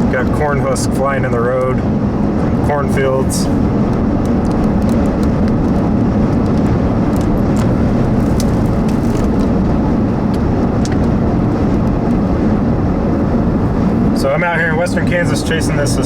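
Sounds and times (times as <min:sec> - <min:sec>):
road noise in car cabin: 0:00.0 - 0:16.0
strong wind: 0:00.0 - 0:16.0.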